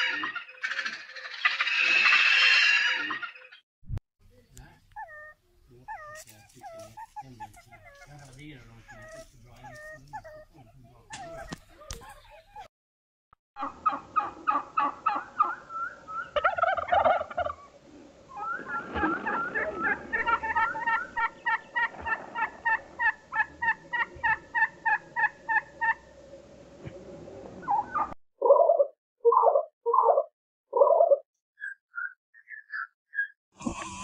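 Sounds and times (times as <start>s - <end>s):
turkey gobbling: 0.0s - 3.5s, 4.9s - 12.7s, 13.6s - 33.3s.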